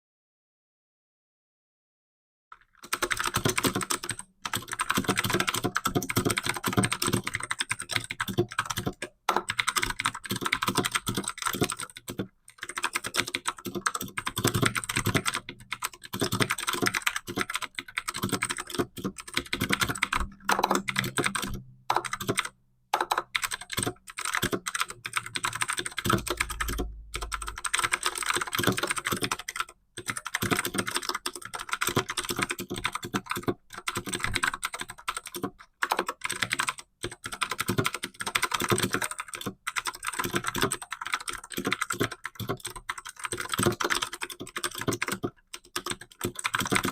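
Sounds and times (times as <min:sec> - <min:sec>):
fast typing on computer keyboard: 0:02.6 - 0:46.9.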